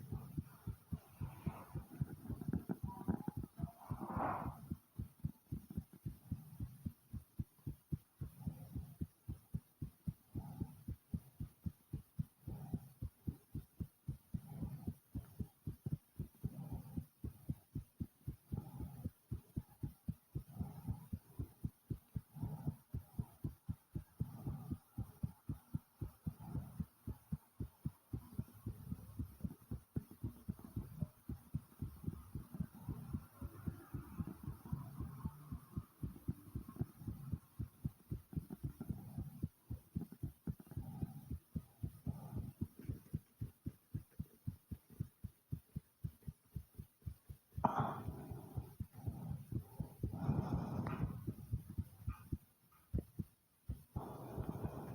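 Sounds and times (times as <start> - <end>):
fast pounding heartbeat: 0.0 - 54.9
soft breathing: 0.0 - 54.9.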